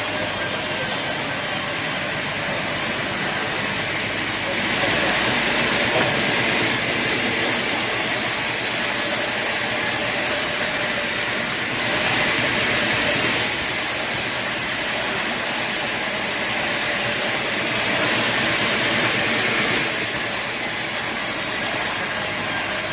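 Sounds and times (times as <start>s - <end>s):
machinery hissing: 0.0s - 22.9s.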